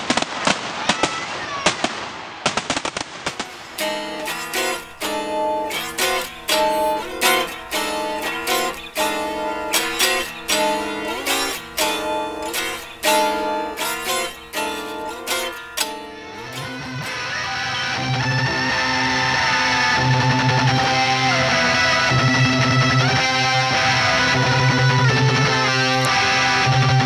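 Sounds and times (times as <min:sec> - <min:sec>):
electric guitar chord stabs: 0:03.4 - 0:27.0
droning guitar chord: 0:03.6 - 0:27.0.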